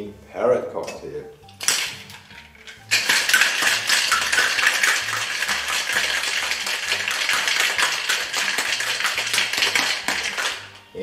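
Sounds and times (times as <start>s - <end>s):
ice rattling in cocktail shaker: 1.6s - 10.9s.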